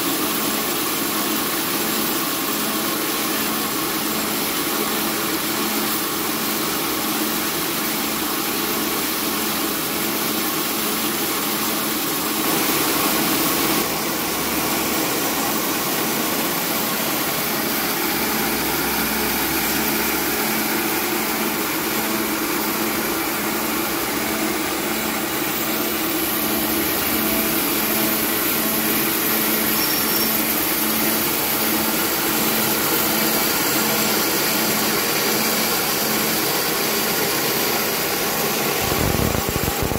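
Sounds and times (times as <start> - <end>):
rice mill machine throbbing: 0.0 - 39.9.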